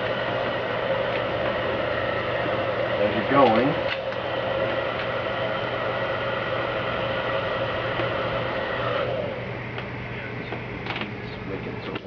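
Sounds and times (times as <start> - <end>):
heat gun fan whining: 0.0 - 12.0.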